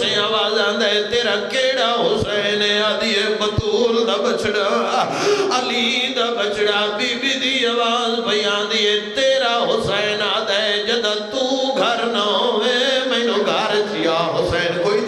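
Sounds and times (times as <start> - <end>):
man chanting a lament: 0.0 - 15.0.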